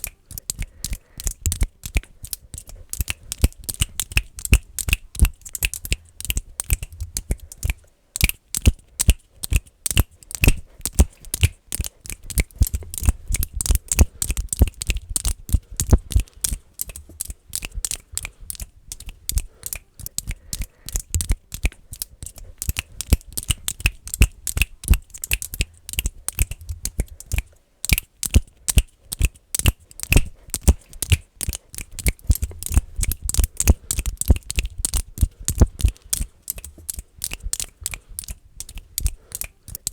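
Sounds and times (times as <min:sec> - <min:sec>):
rapid finger clicking: 0:00.0 - 0:39.9.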